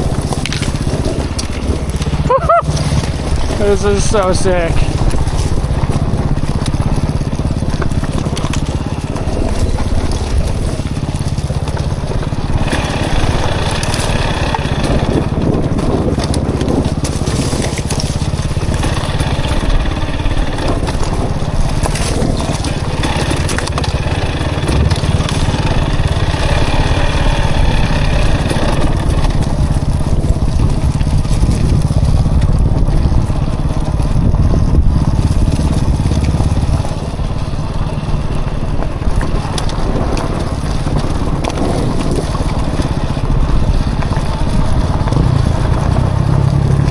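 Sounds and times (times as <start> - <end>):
dirt bike engine: 0.0 - 46.9
wind rumble on microphone: 0.0 - 46.9.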